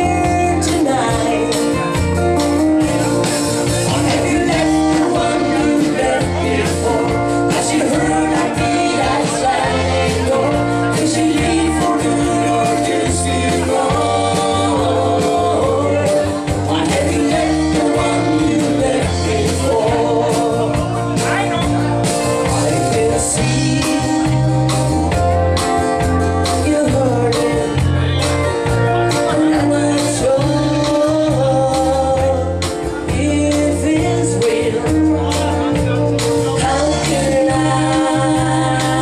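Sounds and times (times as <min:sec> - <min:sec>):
live country band playing: 0:00.0 - 0:39.0
person singing: 0:00.0 - 0:39.0.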